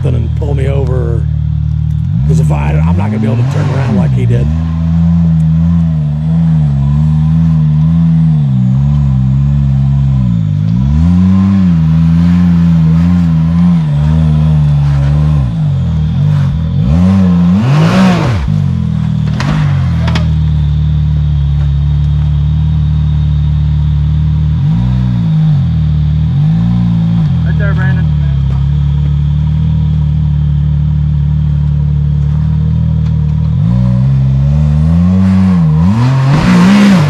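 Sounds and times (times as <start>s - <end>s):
utility vehicle engine revving: 0.0s - 37.0s.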